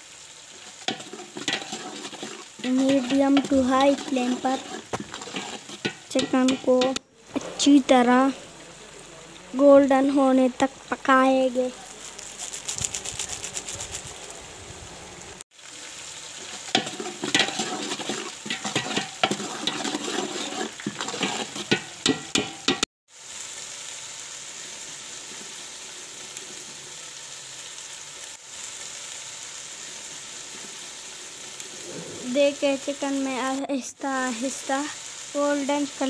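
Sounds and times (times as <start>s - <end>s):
chicken frying crackles and pops: 0.0s - 36.0s
steady sizzle: 0.0s - 36.0s.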